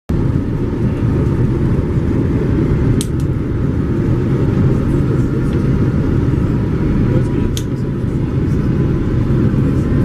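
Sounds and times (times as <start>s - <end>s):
airplane cabin engine rumble: 0.1s - 10.0s
airflow noise: 0.2s - 10.0s.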